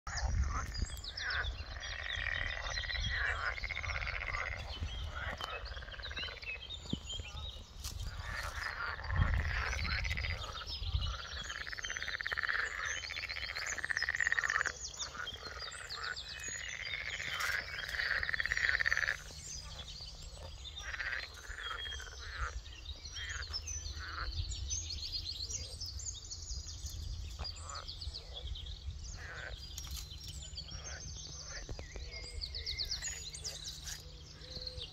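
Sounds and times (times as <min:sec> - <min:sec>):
birds singing: 0:00.1 - 0:34.9
frogs croaking: 0:00.1 - 0:34.9.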